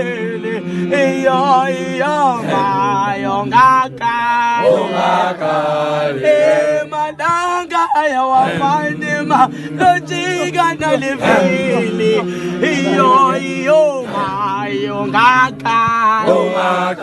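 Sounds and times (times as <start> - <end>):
men singing unaccompanied chant: 0.0 - 17.0.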